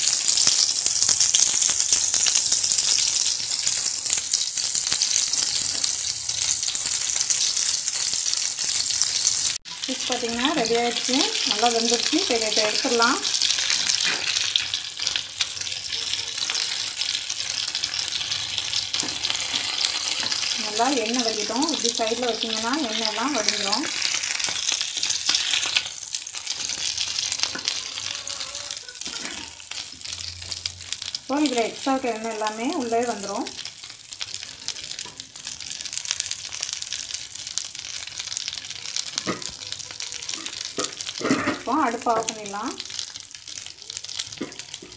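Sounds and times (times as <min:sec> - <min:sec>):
fish sizzling in hot oil: 0:00.0 - 0:44.9.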